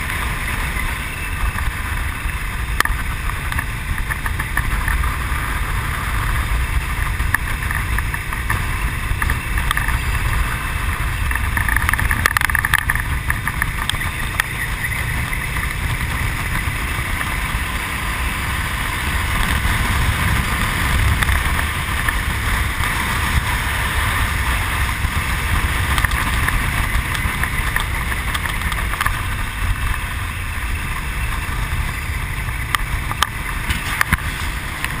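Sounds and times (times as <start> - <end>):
motorcycle engine cruising: 0.0 - 35.0
wind rushing on microphone: 0.0 - 35.0.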